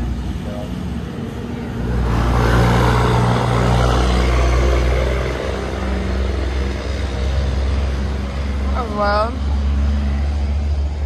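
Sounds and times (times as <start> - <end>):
road noise: 0.0 - 11.0
vehicle engine hum: 0.0 - 11.0.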